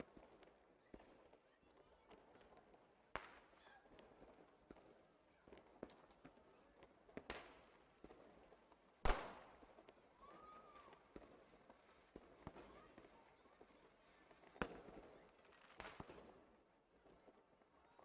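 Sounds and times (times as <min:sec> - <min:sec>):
small firework cracks: 0:00.0 - 0:18.0.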